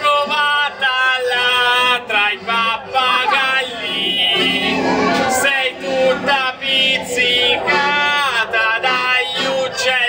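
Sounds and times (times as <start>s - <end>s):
man singing unaccompanied: 0.0s - 10.0s.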